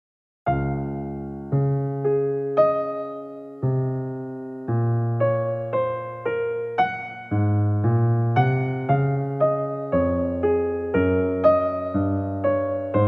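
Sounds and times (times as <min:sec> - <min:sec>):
keyboard notes and chords: 0:00.5 - 0:13.0.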